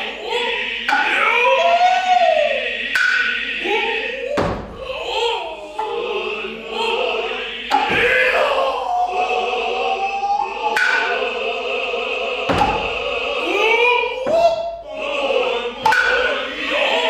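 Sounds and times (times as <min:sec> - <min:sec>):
voices chanting in unison: 0:00.0 - 0:17.0.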